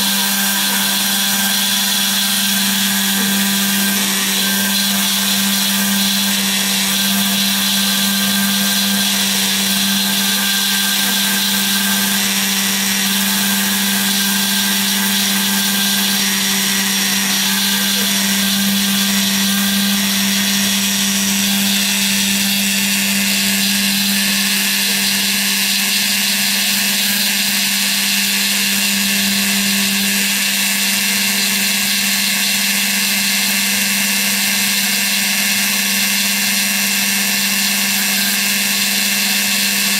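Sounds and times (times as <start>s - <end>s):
machine axes moving whine: 0.0s - 33.6s
cnc router spindle cutting foam: 0.0s - 39.9s.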